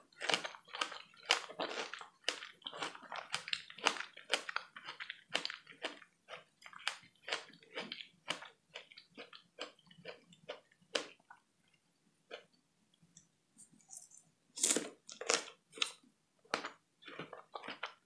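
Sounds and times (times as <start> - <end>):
person chewing strawberry: 0.0 - 12.6, 13.7 - 18.0.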